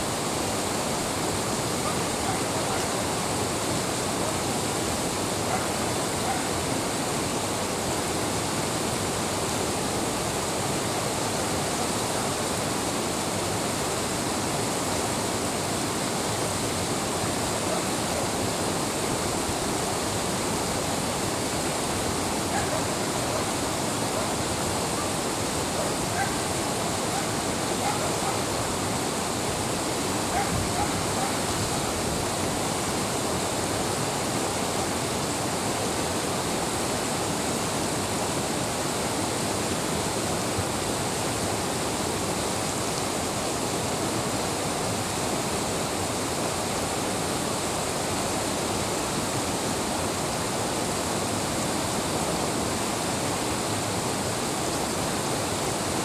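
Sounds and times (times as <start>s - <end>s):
river rapid rushing: 0.0s - 56.0s.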